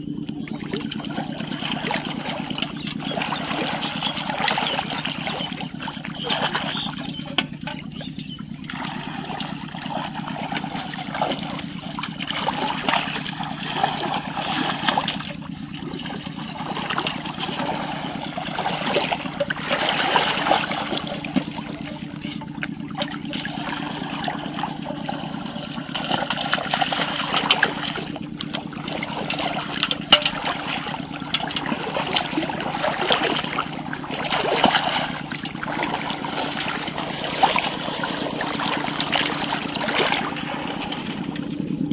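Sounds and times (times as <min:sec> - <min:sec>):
steady low hum: 0:00.0 - 0:41.9
water splashing and trickling: 0:00.0 - 0:41.9.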